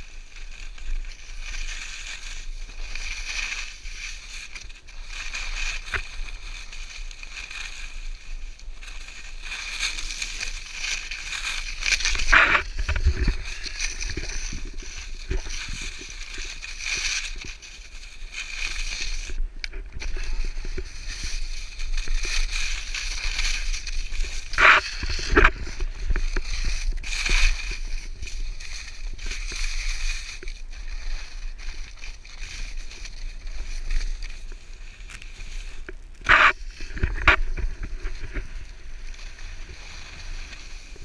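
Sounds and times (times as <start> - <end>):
skis scraping over snow: 0.0 - 41.0
wind rumbling on microphone: 0.0 - 41.0.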